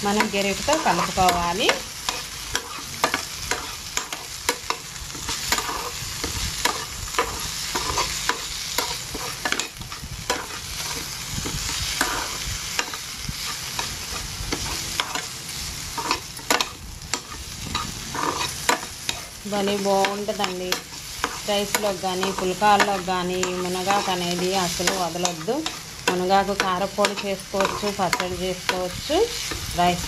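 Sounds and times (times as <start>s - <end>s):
spatula scraping a pan: 0.0s - 29.7s
food sizzling: 0.0s - 30.0s.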